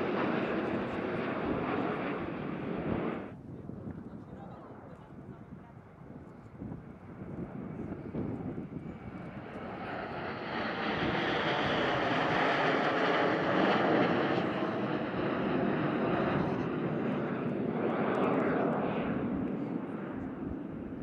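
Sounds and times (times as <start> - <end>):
jet aircraft flying past: 0.0 - 3.4, 6.1 - 21.0.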